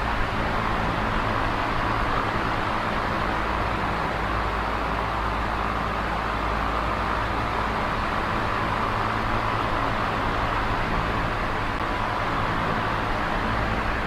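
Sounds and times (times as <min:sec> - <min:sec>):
electric fan air rush: 0:00.0 - 0:14.0.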